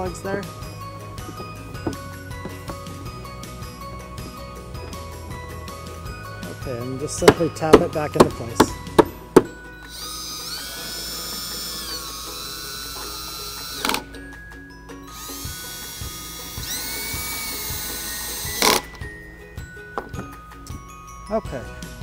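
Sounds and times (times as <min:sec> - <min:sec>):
cordless drill whining: 0:00.0 - 0:20.8.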